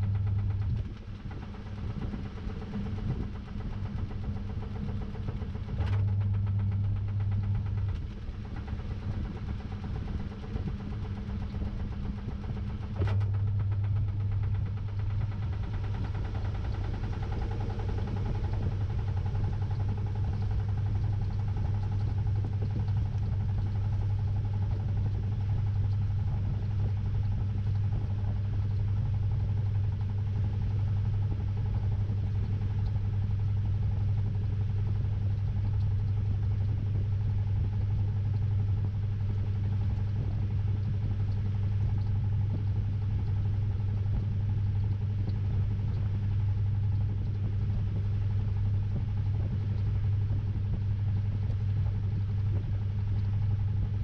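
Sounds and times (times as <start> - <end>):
washing machine motor humming: 0.0 - 54.0.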